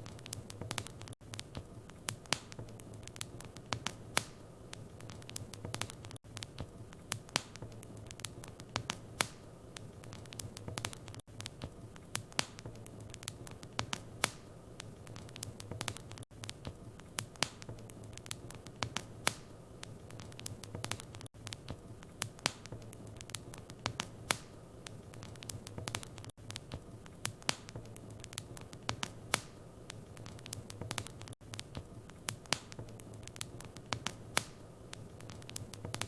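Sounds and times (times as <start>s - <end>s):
low hum of flames: 0.0s - 36.0s
wood fire crackling and popping: 0.0s - 36.0s.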